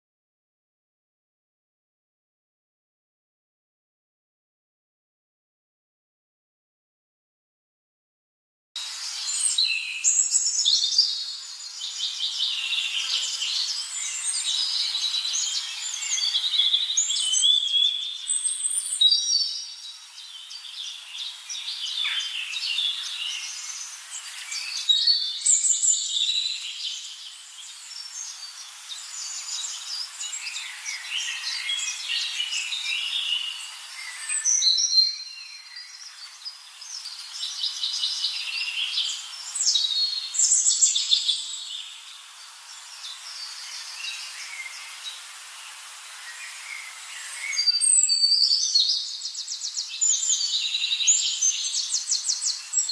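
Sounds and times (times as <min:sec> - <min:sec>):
birds chirping and trilling: 0:08.8 - 0:52.9.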